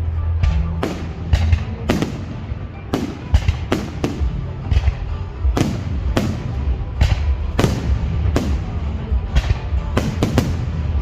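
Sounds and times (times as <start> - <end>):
fireworks bangs: 0.5 - 11.0.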